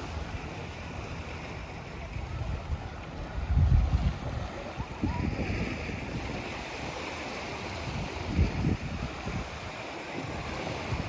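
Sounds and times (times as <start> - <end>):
small waves on sandy beach: 0.0 - 11.0
wind buffeting microphone: 2.0 - 11.0.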